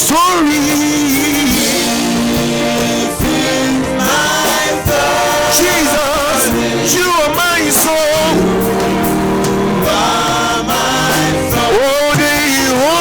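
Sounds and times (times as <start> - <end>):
band playing: 0.0 - 13.0
choir singing: 0.4 - 13.0.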